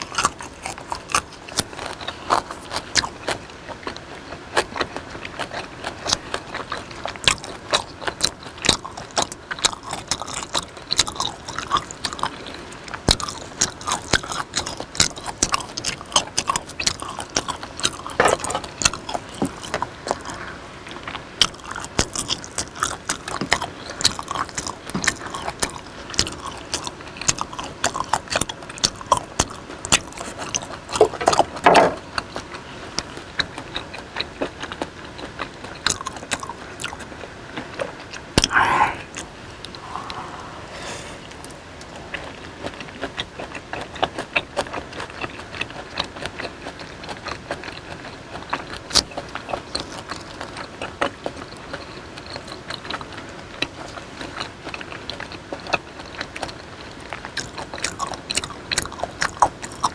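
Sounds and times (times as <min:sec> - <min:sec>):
wet chewing mouth sounds: 0:00.0 - 0:59.9.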